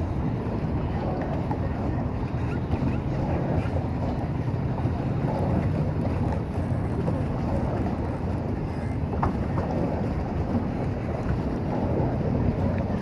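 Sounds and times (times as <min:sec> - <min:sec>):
paddle boat water noise: 0:00.0 - 0:13.0
wind on microphone: 0:00.0 - 0:13.0.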